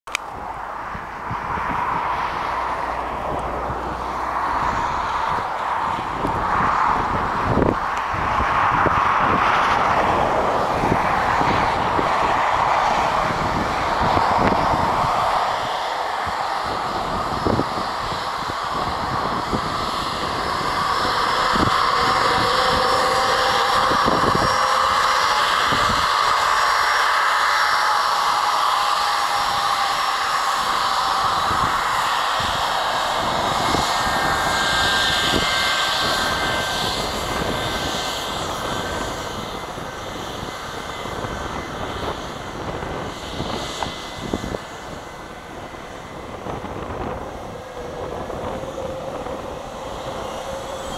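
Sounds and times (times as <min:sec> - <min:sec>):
jet engines rushing with whine: 0:00.0 - 0:50.9
wind thumping on microphone: 0:00.2 - 0:50.9.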